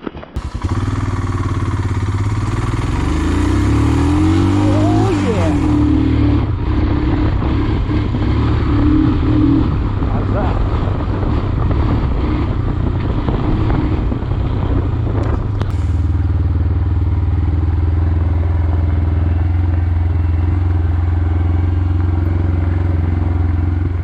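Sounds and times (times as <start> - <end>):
motorcycle engine humming: 0.3 - 24.0.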